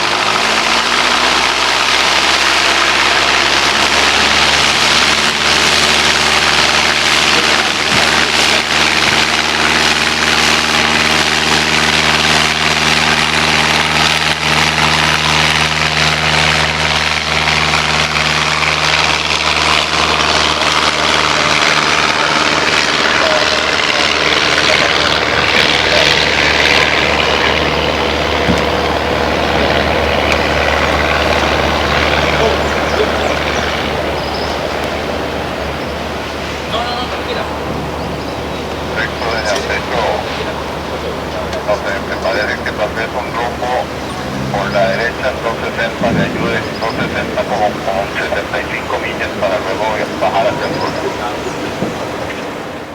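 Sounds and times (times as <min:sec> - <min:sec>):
propeller plane engine drone: 0:00.0 - 0:52.9.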